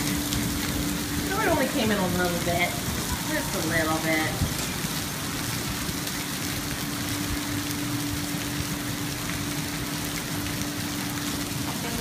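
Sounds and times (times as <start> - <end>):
heavy rain and hail on pavement: 0.0 - 12.0.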